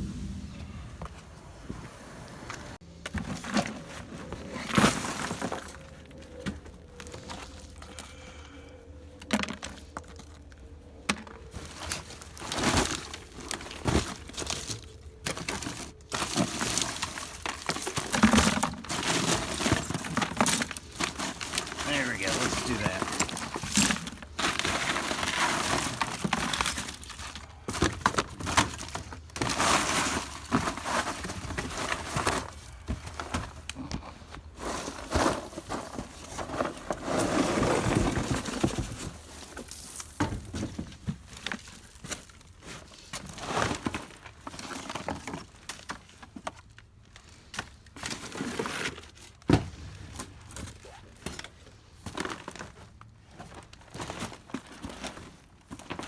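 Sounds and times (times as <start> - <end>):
rustling and crinkling debris: 0.0 - 56.0.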